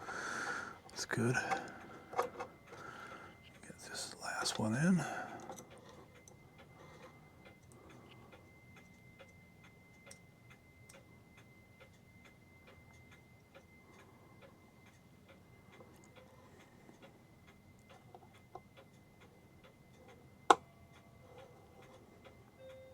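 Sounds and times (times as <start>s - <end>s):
faint clock ticking: 0.0s - 22.9s.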